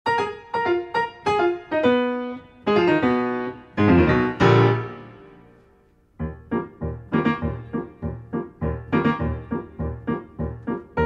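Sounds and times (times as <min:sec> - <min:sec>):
piano music: 0:00.1 - 0:11.0.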